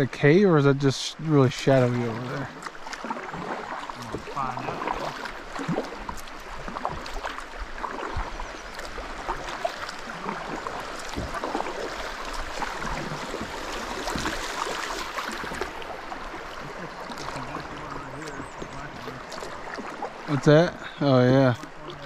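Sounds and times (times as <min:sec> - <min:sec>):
river water rushing against hull: 0:00.0 - 0:22.0
small splashes and knocks: 0:01.3 - 0:20.6.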